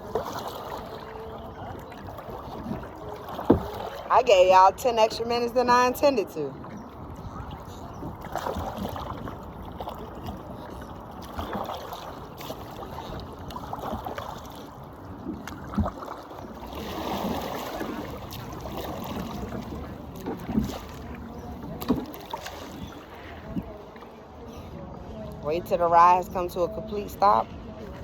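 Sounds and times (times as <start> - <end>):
paddle strokes splashing: 0.0 - 28.0.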